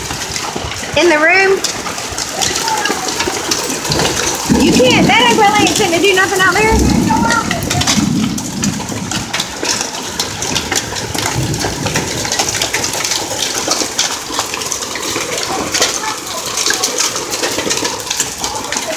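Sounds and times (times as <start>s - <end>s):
hailstones striking hard surfaces: 0.0s - 18.9s
heavy rain: 0.0s - 18.9s.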